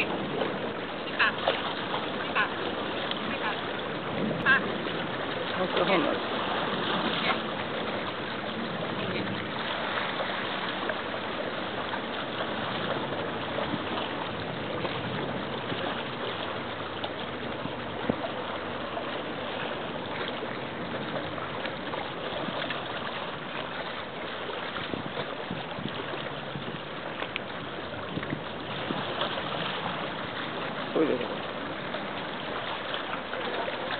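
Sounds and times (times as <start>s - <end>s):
wind and water rushing: 0.0s - 33.9s.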